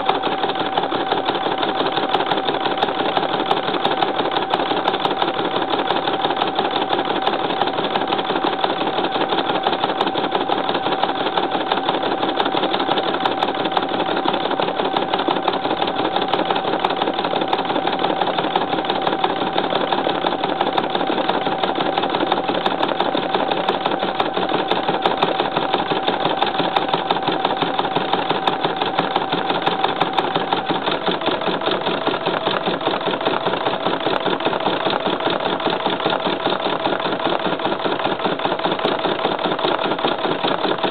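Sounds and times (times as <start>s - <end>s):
needle clattering rapidly: 0.0s - 40.9s.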